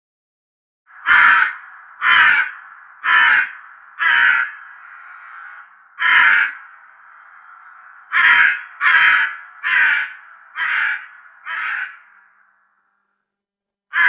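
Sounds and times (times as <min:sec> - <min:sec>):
crow cawing: 0:00.9 - 0:13.2.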